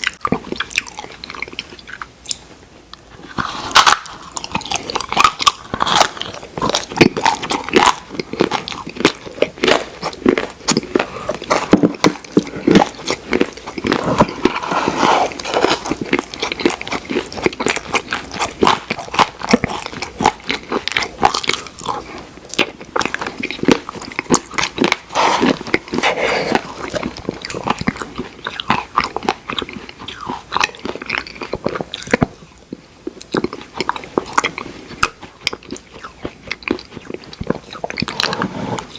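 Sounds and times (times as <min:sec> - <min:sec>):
chewing and crunching: 0:00.0 - 0:38.9.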